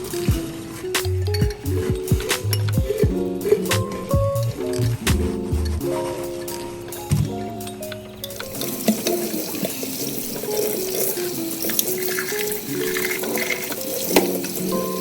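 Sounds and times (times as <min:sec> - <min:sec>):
soft background music: 0:00.0 - 0:15.0
water running: 0:00.0 - 0:15.0.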